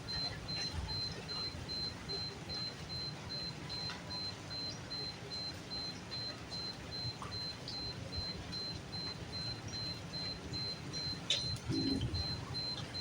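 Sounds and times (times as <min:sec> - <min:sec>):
faint drip ticks: 0:00.1 - 0:13.0.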